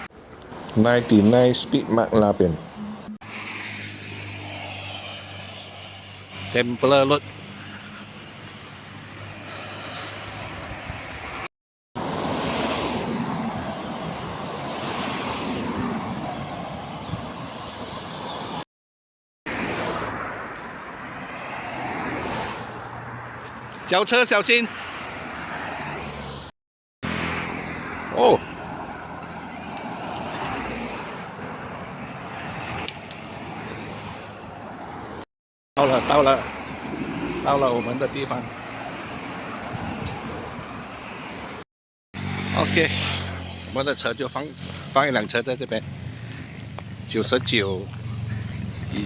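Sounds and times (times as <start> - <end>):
road traffic passing: 0.0 - 18.6, 19.5 - 49.0.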